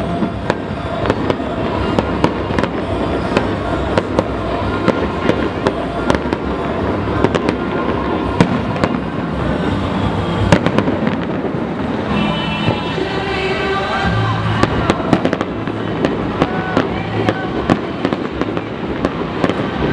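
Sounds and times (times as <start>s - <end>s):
fireworks bangs and crackles: 0.0s - 19.9s
music: 0.0s - 19.9s.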